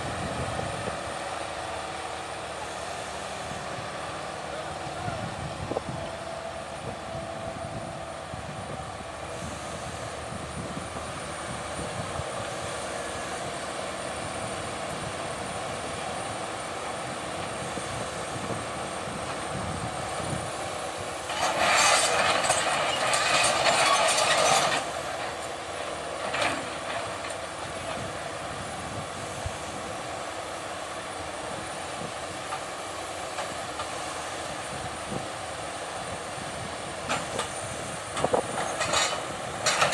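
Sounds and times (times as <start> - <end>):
heavy machinery running: 0.0 - 39.9.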